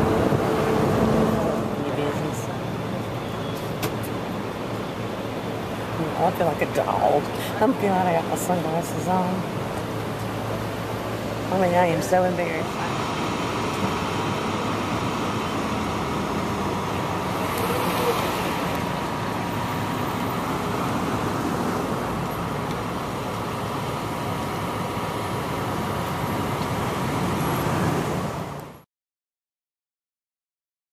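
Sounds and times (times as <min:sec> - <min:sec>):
vehicle engine and traffic rumble: 0:00.0 - 0:28.8.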